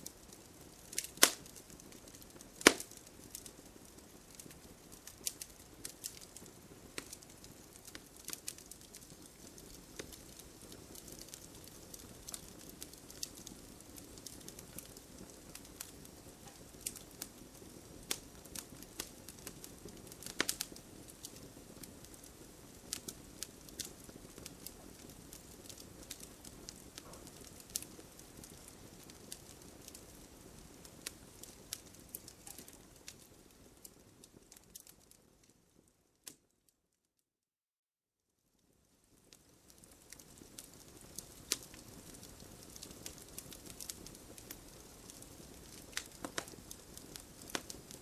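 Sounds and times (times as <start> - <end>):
low rush of flame: 0.0 - 34.9, 38.8 - 48.0
campfire crackling and popping: 0.0 - 36.6, 38.6 - 48.0.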